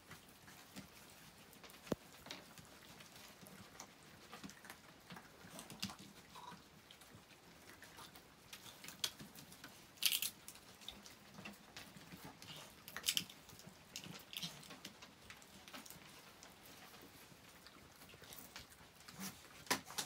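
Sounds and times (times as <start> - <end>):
animal chewing on rope toy: 0.0 - 20.0.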